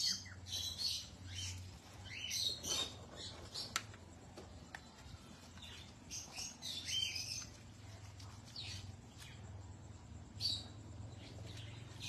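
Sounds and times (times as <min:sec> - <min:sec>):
birds chirping: 0:00.0 - 0:12.0
faint low hum: 0:00.0 - 0:12.0.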